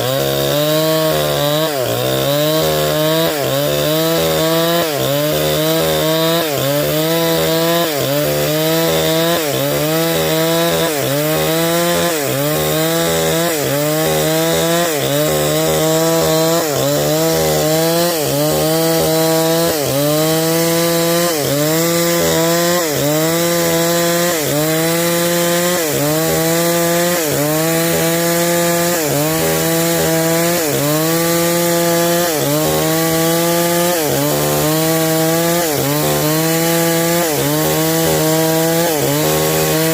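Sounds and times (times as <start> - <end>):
chainsaw ripping timber: 0.0 - 39.9.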